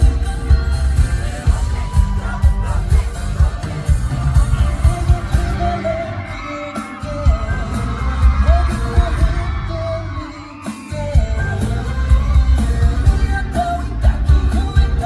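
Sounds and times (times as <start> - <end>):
live pop music with singing: 0.0 - 15.0.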